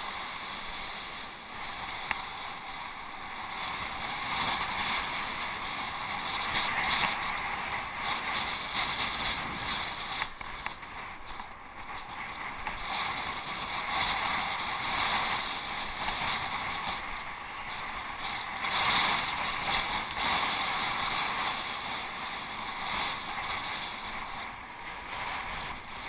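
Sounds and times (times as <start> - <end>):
bicycle mechanical rattling: 0.0 - 26.0
bicycle tyres on rough ground: 0.0 - 26.0.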